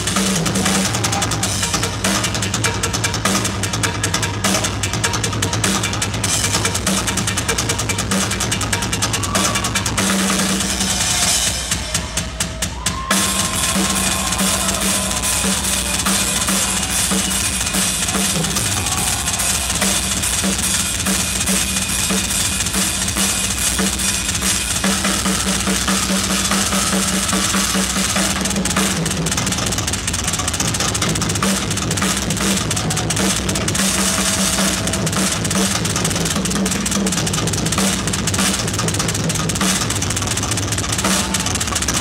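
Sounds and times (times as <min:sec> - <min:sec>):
rock drum solo: 0:00.0 - 0:42.0.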